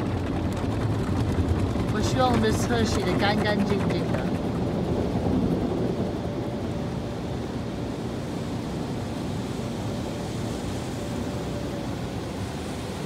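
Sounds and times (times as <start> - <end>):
faint machine hum: 0.0 - 13.0.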